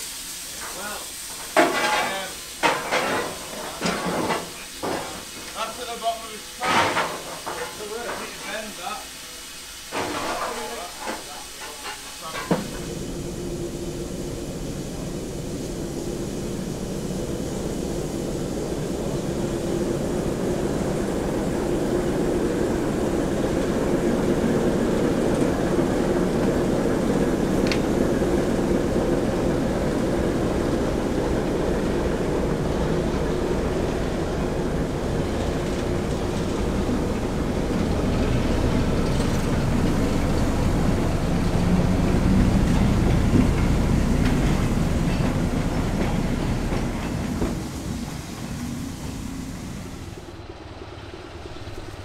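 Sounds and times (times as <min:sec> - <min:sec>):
diesel locomotive engine drone: 0:00.0 - 0:10.4, 0:11.4 - 0:52.0.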